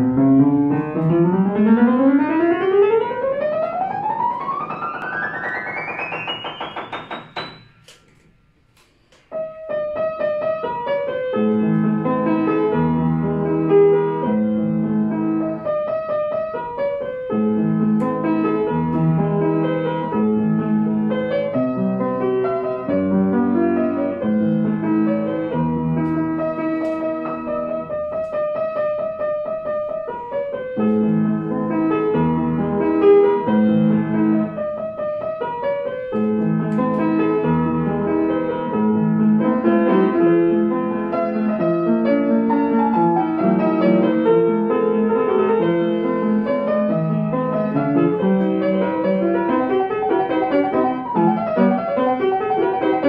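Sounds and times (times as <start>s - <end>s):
upright piano playing: 0.0s - 8.5s, 9.3s - 53.0s.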